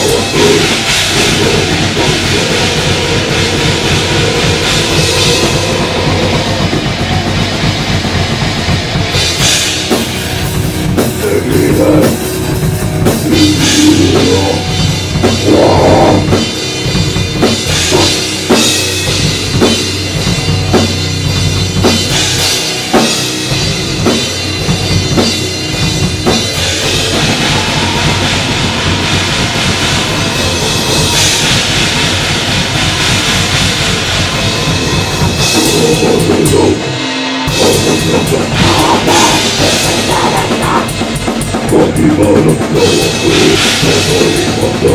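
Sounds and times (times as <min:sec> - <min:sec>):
blast beat drumming: 0:00.0 - 0:44.9
distorted guitar and bass: 0:00.0 - 0:44.9.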